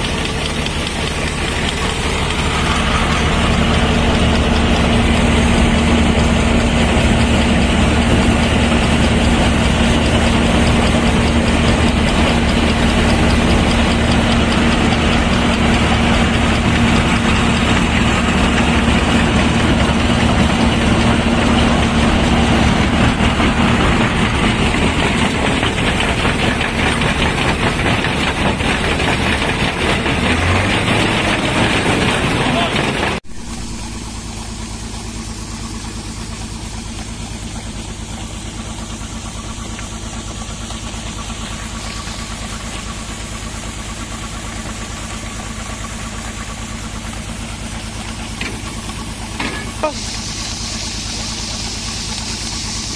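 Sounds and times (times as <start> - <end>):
heavy machinery engine running: 0.0 - 52.9.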